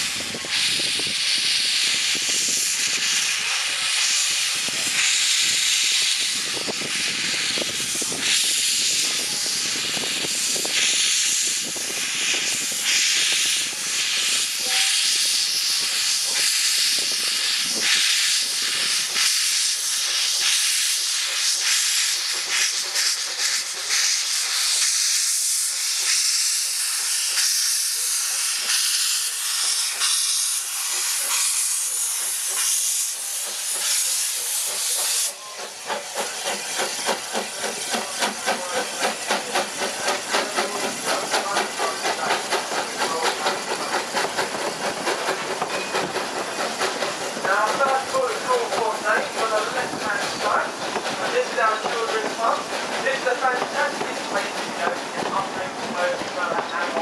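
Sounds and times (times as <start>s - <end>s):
steam hissing: 0.0s - 57.0s
train knocks and rumble: 0.0s - 57.0s.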